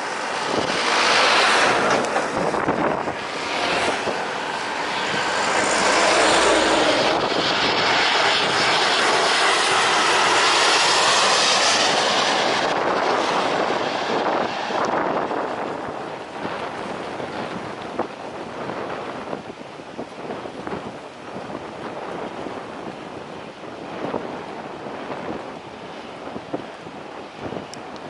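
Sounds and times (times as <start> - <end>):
jet airliner engines rushing: 0.0 - 28.0.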